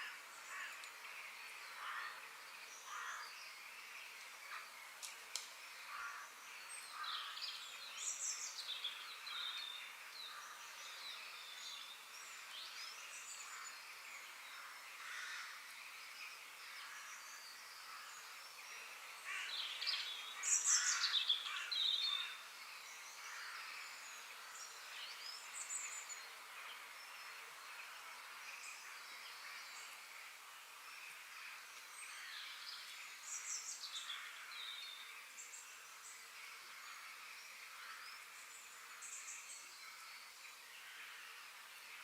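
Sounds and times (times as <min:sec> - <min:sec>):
faint background hiss: 0:00.0 - 0:42.0.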